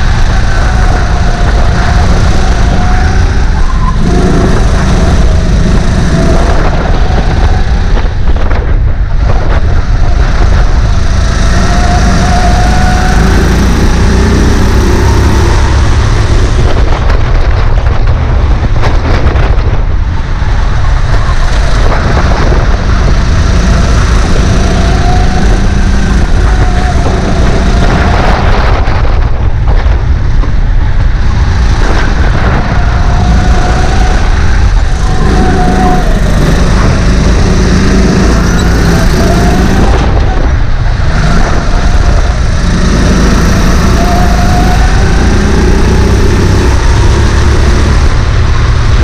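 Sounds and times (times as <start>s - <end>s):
kart engine revving: 0.0s - 17.6s, 18.3s - 49.0s
heavy low rumble: 0.0s - 49.0s.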